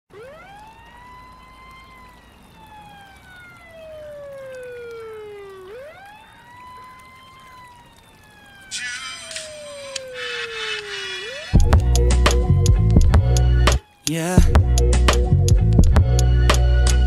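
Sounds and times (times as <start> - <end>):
wailing siren: 0.1 - 17.0.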